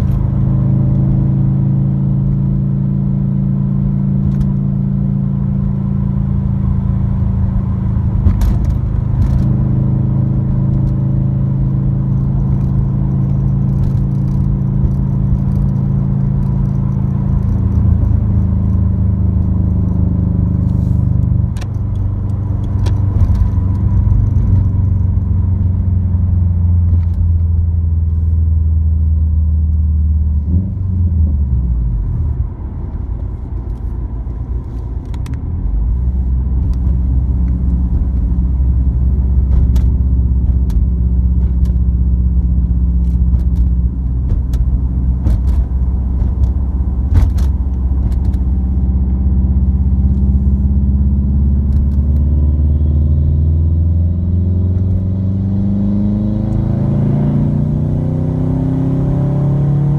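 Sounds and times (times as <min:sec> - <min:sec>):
car exhaust drone from inside: 0:00.0 - 0:59.9.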